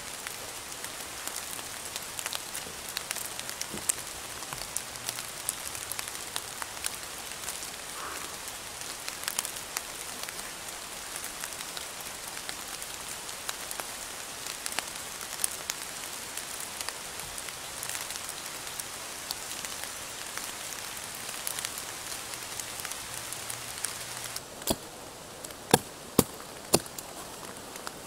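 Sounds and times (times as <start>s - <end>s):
rain on leaves: 0.0s - 28.0s.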